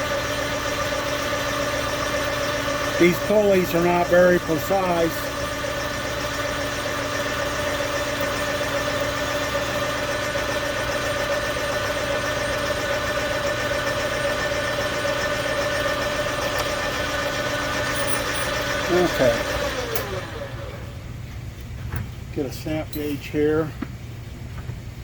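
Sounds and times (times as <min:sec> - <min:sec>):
metal lathe cutting: 0:00.1 - 0:20.9.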